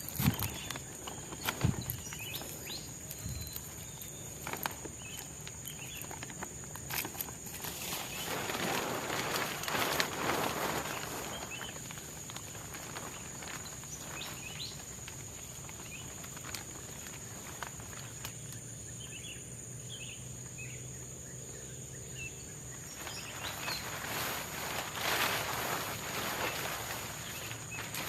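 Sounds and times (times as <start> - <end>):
rustling: 0.0 - 18.5, 22.8 - 28.0.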